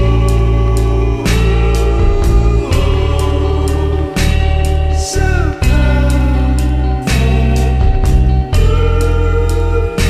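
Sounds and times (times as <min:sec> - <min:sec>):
music with heavy bass line: 0:00.0 - 0:10.0.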